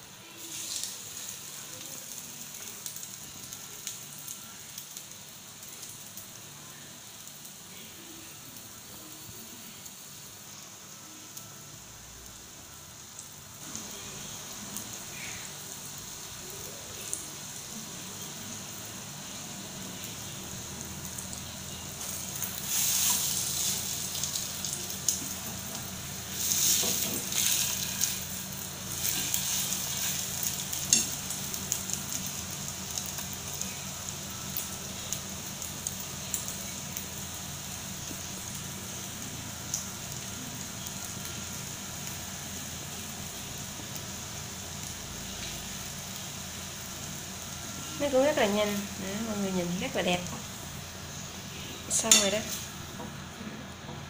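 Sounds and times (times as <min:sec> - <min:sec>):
bread frying in butter sizzling: 0:00.0 - 0:54.0.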